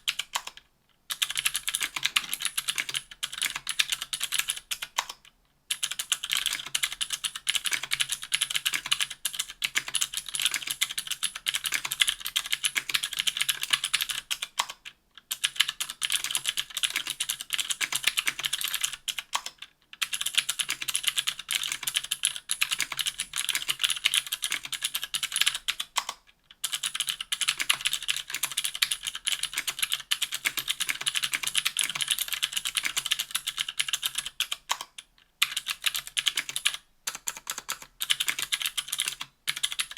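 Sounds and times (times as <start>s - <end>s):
fast typing on clicky keyboard: 0.0s - 39.9s.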